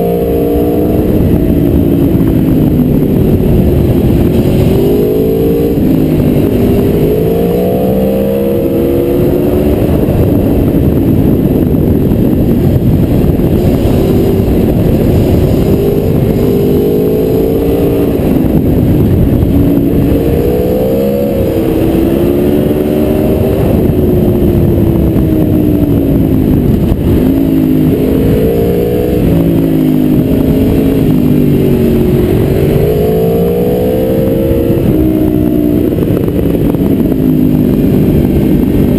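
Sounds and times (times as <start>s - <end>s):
heavy wind rush: 0.0s - 38.9s
motorcycle engine revving: 0.0s - 38.9s.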